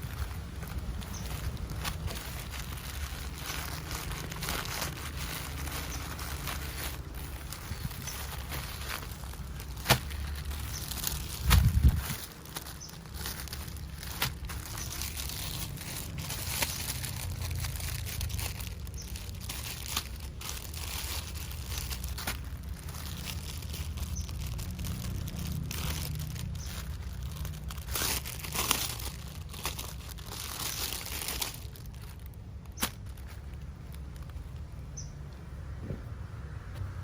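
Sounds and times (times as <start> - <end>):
plastic packaging crinkling and tearing: 0.0 - 34.9.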